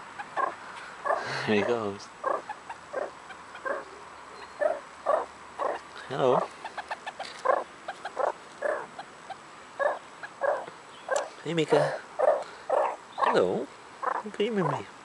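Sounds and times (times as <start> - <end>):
faint ticking calls: 0.0 - 15.0
meerkats chirping: 0.2 - 14.9.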